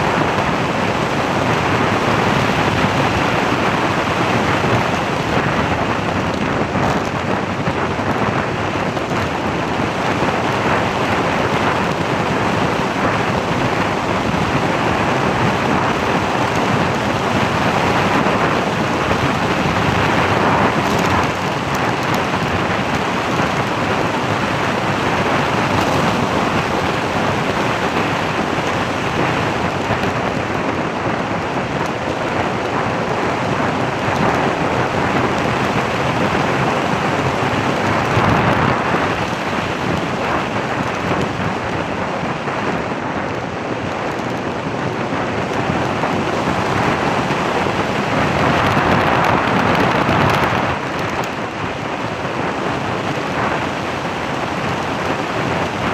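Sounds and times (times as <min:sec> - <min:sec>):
road noise: 0:00.0 - 0:55.9
rushing wind: 0:00.0 - 0:55.9.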